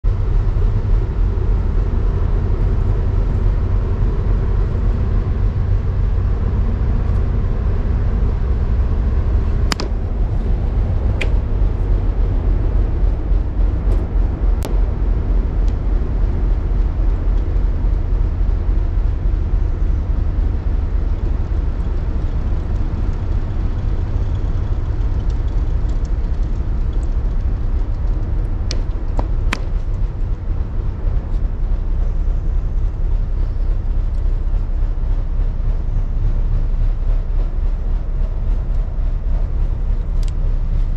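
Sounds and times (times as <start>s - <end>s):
low rumbling background noise: 0.0s - 40.9s.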